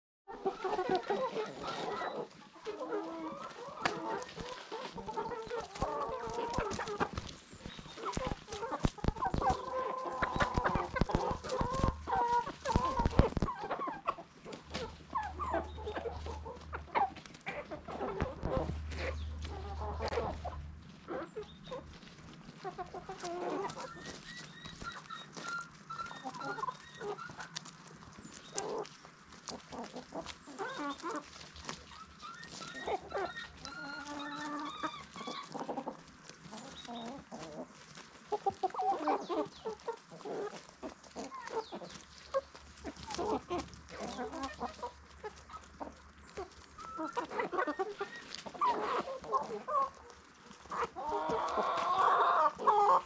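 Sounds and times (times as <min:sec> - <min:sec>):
chickens clucking: 0:00.3 - 0:53.0.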